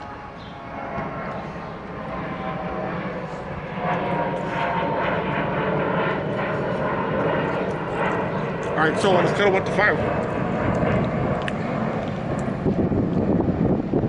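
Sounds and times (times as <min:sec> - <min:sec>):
airplane engine droning overhead: 0:00.0 - 0:14.0.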